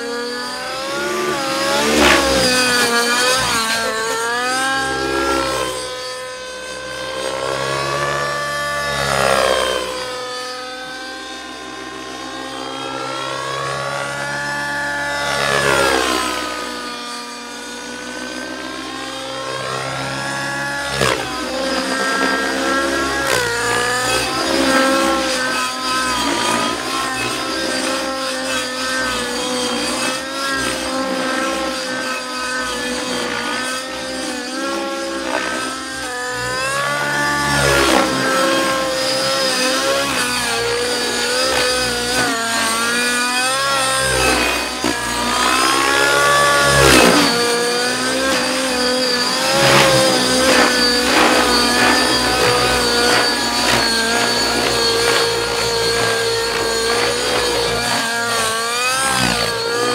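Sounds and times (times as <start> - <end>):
model helicopter engine and rotor: 0.0 - 59.9.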